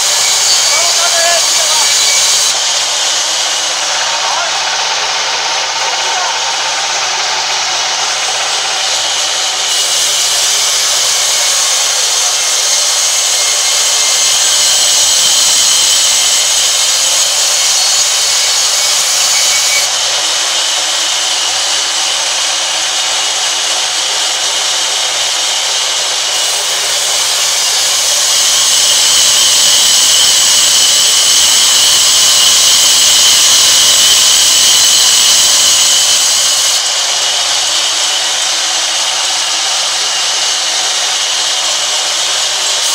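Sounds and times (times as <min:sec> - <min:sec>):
band saw cutting through wood: 0:00.0 - 0:42.9.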